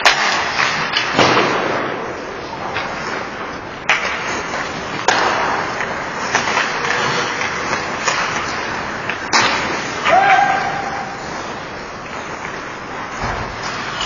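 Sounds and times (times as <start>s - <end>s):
hockey sticks and puck clacking: 0.0s - 14.0s.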